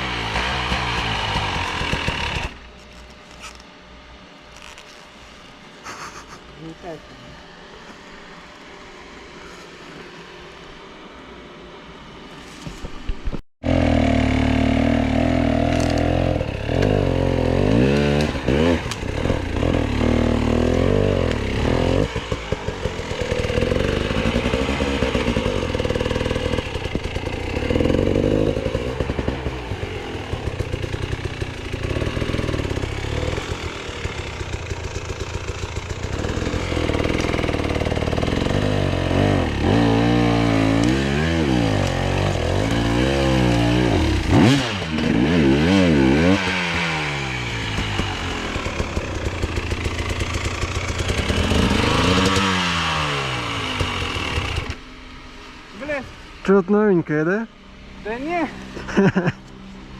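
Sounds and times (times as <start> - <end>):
motorcycle engine revving: 0.0 - 3.7, 13.3 - 59.9.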